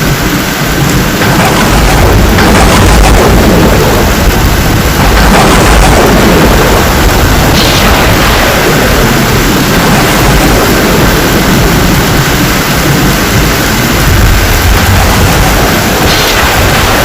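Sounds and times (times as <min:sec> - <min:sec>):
deep rumble: 0:00.0 - 0:17.0
heavy rain pouring: 0:00.0 - 0:17.0.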